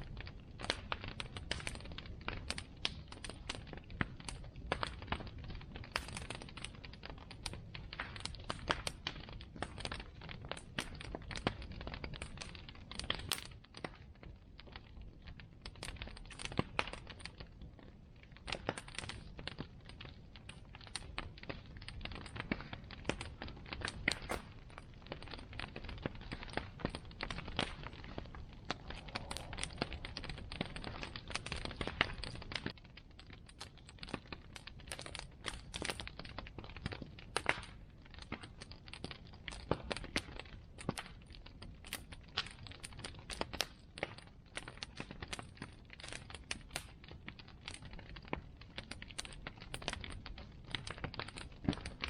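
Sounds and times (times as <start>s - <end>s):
bonfire crackling and popping: 0.0s - 52.0s
low fire rumble: 0.0s - 52.0s.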